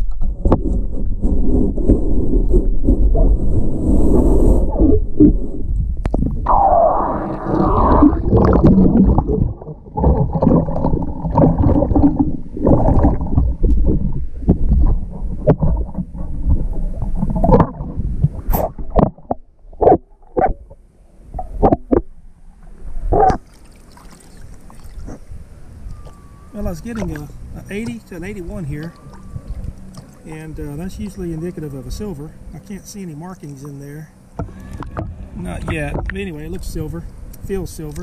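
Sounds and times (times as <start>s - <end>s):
muffled underwater digging: 0.0s - 38.0s.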